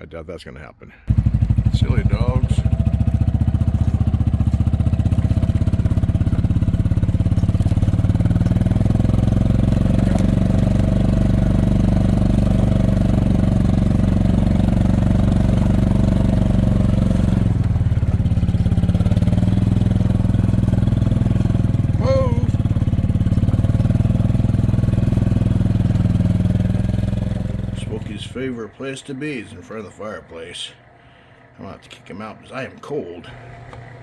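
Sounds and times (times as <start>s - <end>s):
vehicle engine running: 1.1s - 34.0s.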